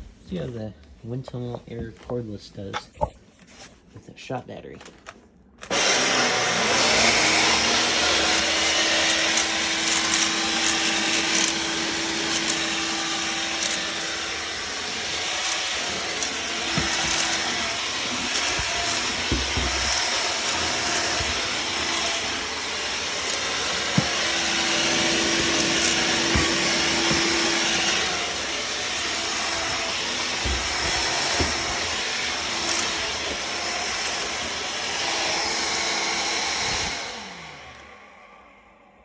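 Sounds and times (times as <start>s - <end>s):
stick vacuum running on hard floor: 5.7s - 38.1s.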